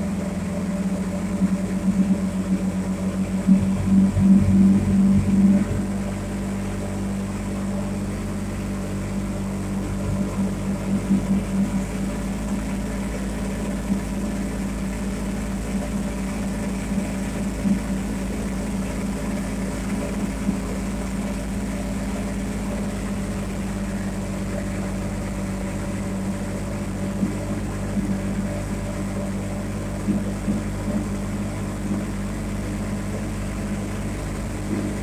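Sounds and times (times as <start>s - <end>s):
off-road vehicle engine droning: 0.0s - 35.0s.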